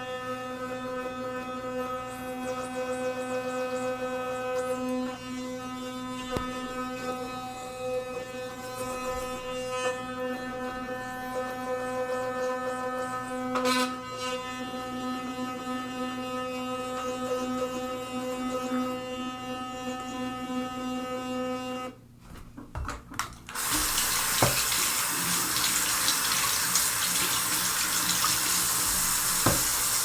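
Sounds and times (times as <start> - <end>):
electric toothbrush buzzing: 0.0 - 22.0, 23.5 - 30.0.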